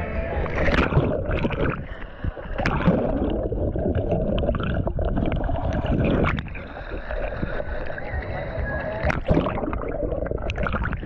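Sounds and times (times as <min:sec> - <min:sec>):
muffled underwater rushing: 0:00.0 - 0:11.0
water splashing: 0:00.0 - 0:11.0.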